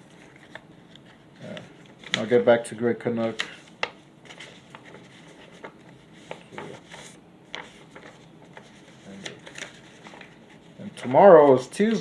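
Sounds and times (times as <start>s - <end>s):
paper rustling: 0.0s - 2.4s, 3.2s - 12.0s.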